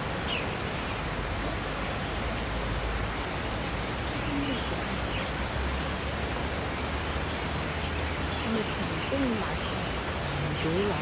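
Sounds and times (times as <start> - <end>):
outdoor ambience hiss: 0.0 - 11.0.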